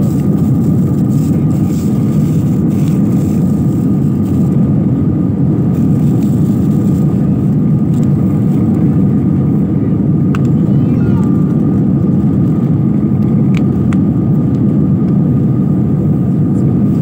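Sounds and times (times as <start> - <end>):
faint higher hum: 0.0 - 17.0
jet cabin deep roar: 0.0 - 17.0.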